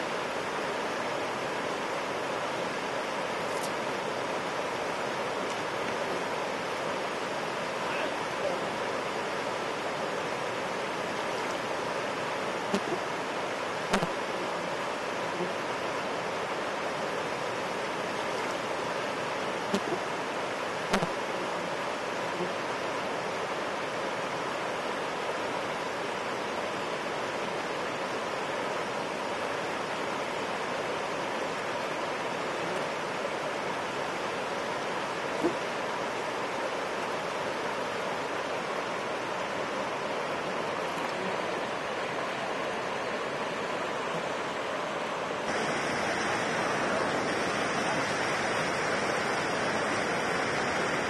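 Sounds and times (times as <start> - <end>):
river rapid rushing: 0.0 - 51.0.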